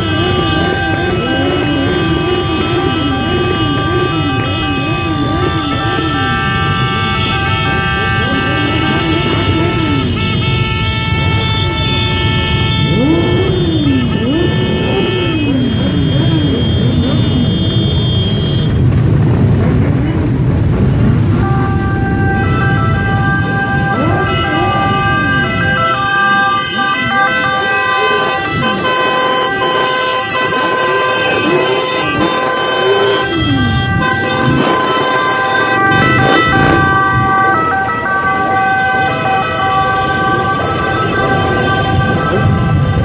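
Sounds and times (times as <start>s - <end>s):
horns sounding steady tones: 0.0s - 19.0s, 20.9s - 43.0s
motorcycle engines revving: 0.0s - 43.0s.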